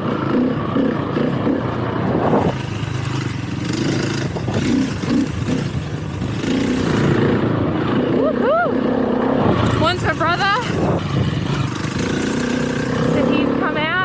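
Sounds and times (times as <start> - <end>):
dirt bike engine revving: 0.0 - 14.0
track noise: 0.0 - 14.0
wind noise: 1.5 - 8.2, 9.1 - 13.7.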